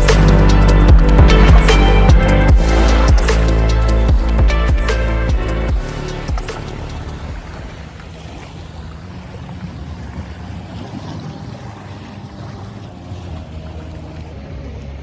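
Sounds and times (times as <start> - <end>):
boat motor hum: 0.0 - 15.0
water wash: 0.0 - 15.0.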